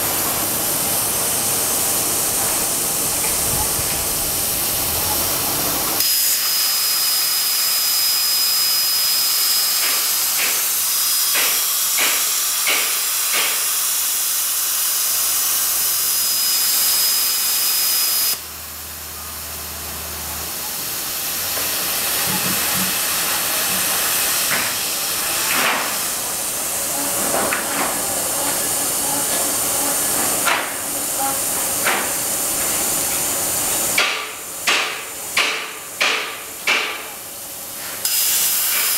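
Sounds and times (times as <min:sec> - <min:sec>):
plasma torch hissing and whining: 0:00.0 - 0:19.6, 0:20.4 - 0:38.9.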